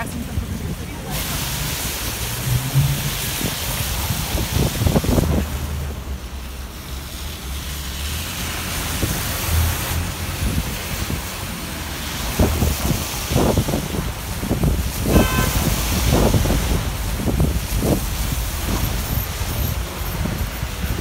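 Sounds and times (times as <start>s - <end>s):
wind buffeting microphone: 0.0s - 6.1s, 8.8s - 21.0s
traffic noise: 0.0s - 21.0s.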